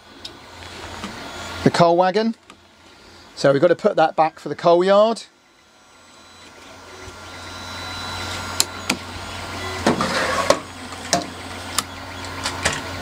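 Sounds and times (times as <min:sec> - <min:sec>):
model train motor hum: 0:00.0 - 0:13.0
three d printers whirring: 0:00.0 - 0:13.0.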